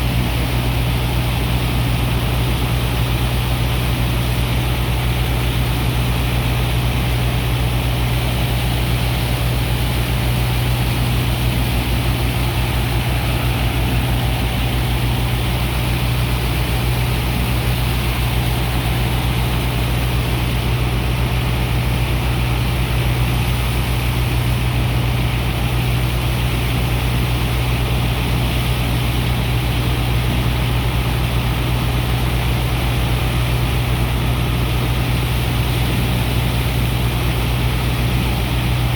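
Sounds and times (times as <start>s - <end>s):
engine and pump machinery humming: 0.0s - 38.9s.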